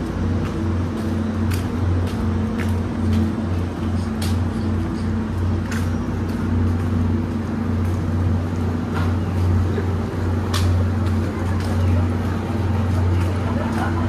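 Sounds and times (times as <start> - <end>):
steam train rumble: 0.0 - 14.0.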